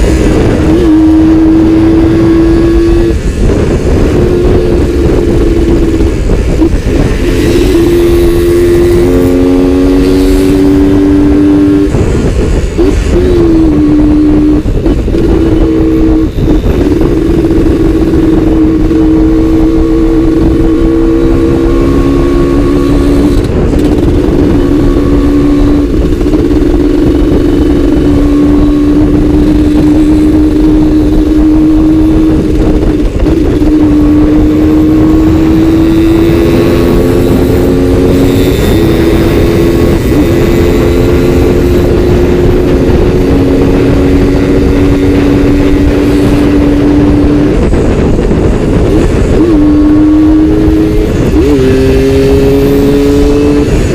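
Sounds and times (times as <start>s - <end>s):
two-stroke motorcycle engine: 0.0s - 53.9s.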